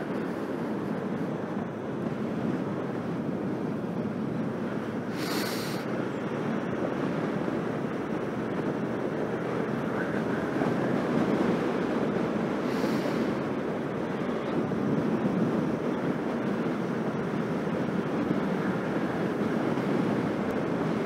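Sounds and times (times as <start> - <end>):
muffled road and engine noise: 0.0 - 21.0
wind rushing over microphone: 0.0 - 21.0.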